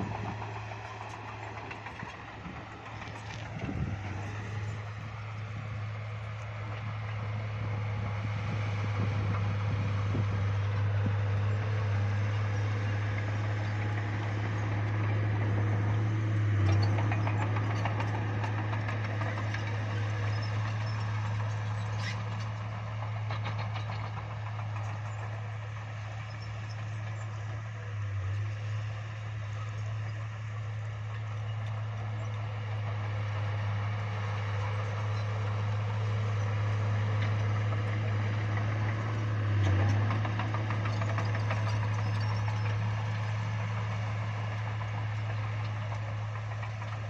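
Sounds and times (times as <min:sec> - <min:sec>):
bulldozer diesel engine droning: 0:00.0 - 0:47.0.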